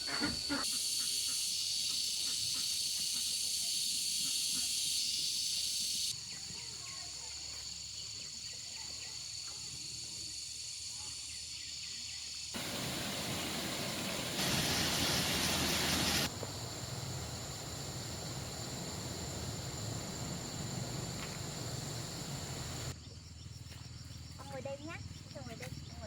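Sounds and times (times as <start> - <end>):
steady outdoor hiss: 0.0 - 26.0.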